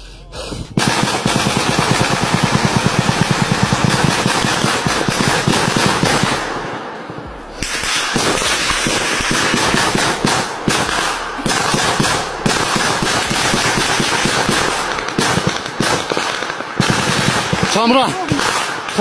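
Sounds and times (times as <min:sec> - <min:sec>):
automatic gunfire bursts: 0:00.8 - 0:06.8, 0:07.5 - 0:19.0.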